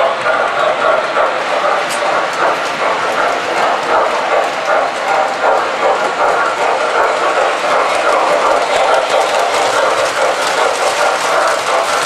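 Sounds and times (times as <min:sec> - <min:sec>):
toy train wheels clattering on rails: 0:00.0 - 0:12.0.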